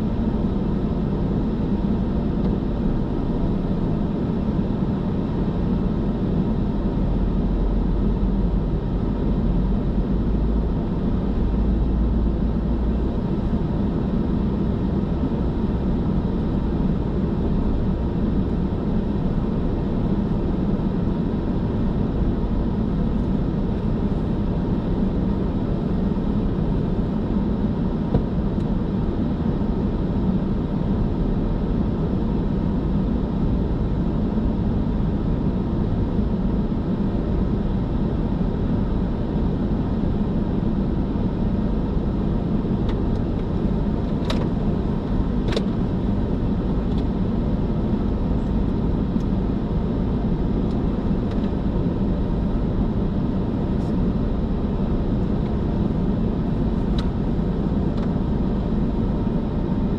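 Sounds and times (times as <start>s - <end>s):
car road noise on highway: 0.0s - 59.9s.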